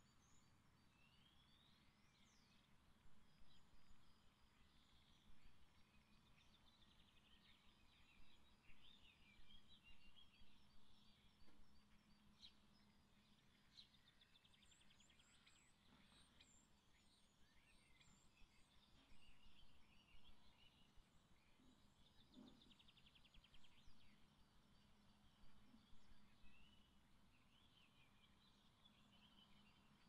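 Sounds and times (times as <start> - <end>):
faint low hum: 0.0 - 30.0
songbirds chirping and trilling: 0.0 - 30.0.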